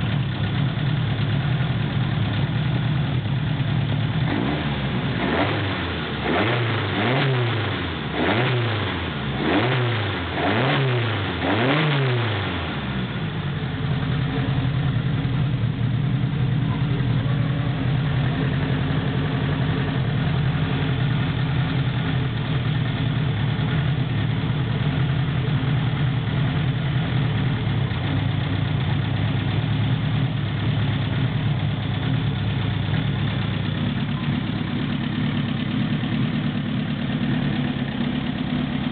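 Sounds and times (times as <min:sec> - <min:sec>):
car engine revving and idling: 0:00.0 - 0:38.9.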